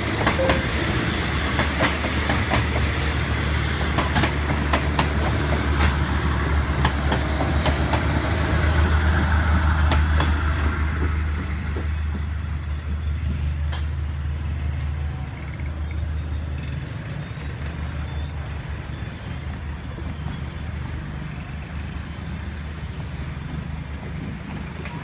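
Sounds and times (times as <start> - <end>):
diesel engine rumble: 0.0 - 25.0.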